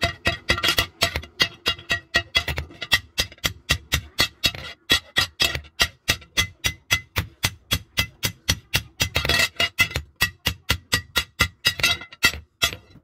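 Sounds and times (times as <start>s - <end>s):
hammer beating steel on anvil: 0.0s - 13.0s.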